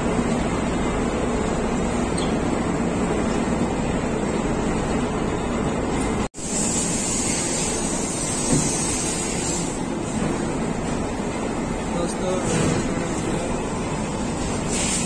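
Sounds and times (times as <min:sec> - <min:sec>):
conveyor running: 0:00.0 - 0:15.0.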